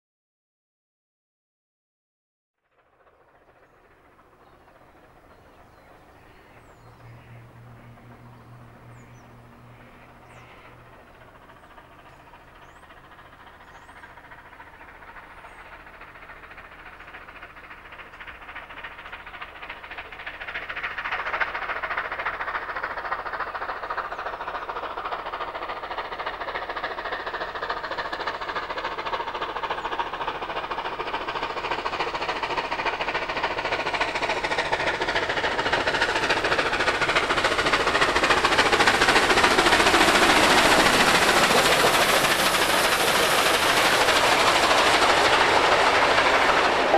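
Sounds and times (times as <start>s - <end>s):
steam locomotive exhaust beats: 2.7s - 46.9s.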